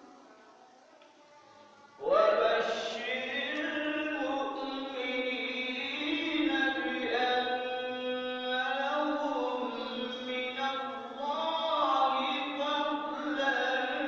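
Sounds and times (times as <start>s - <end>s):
man chanting into a microphone: 2.0s - 14.0s.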